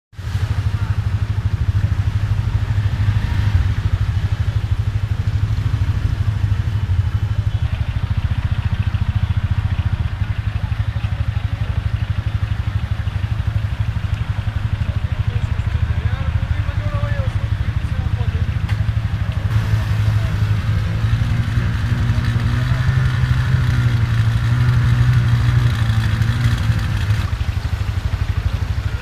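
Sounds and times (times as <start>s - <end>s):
small engine idling: 0.2s - 29.0s.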